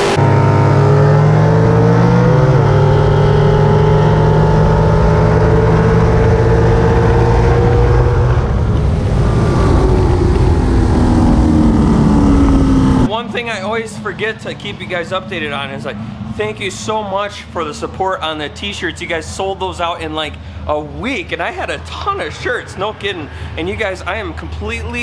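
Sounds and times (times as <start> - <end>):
car engine running: 0.0 - 25.0
gliding tones: 0.0 - 25.0.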